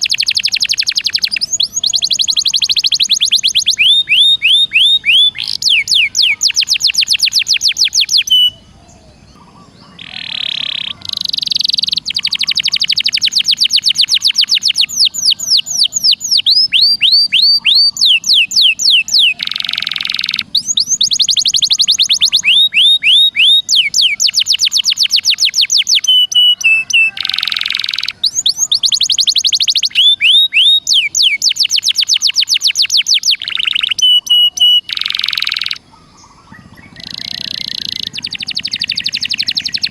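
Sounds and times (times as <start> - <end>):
harsh buzzy bird notes: 0.0 - 8.7, 9.3 - 39.9
songbird trilling whistles: 0.0 - 39.9.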